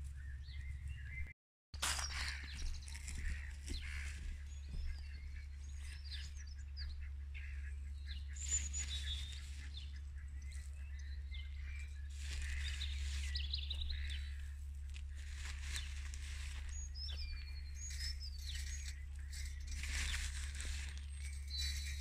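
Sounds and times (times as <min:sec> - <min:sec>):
birds singing: 0:00.0 - 0:22.0
low hum: 0:00.0 - 0:22.0.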